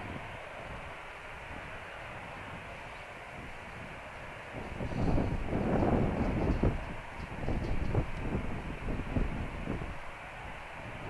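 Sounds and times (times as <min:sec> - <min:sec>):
distant jet engines idling: 0:00.0 - 0:11.0.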